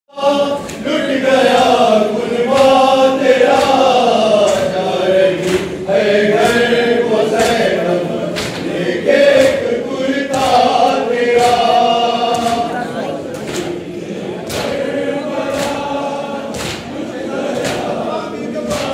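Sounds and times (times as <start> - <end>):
group of men chanting: 0.1 - 18.9.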